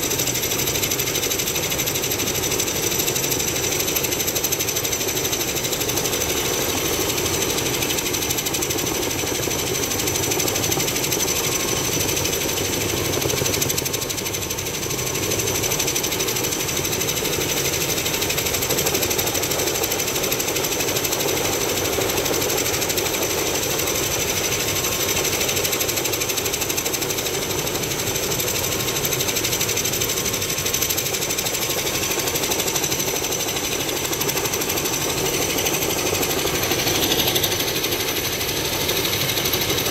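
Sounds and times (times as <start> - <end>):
helicopter high whine: 0.0 - 39.9
helicopter rotor chop: 0.0 - 39.9.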